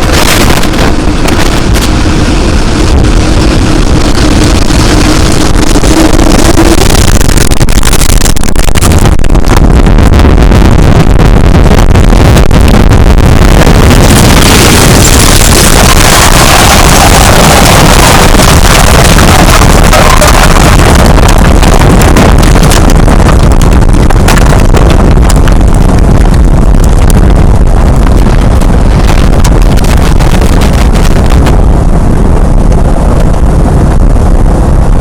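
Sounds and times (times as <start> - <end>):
tornado wind rushing: 0.0 - 35.0.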